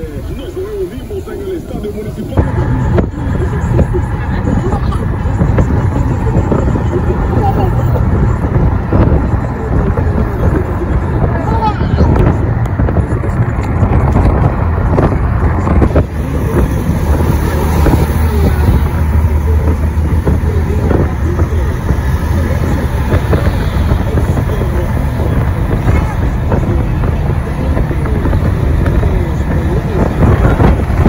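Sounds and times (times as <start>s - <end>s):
faint indistinct voices: 0.0s - 31.0s
vehicle engine and road noise: 0.0s - 31.0s.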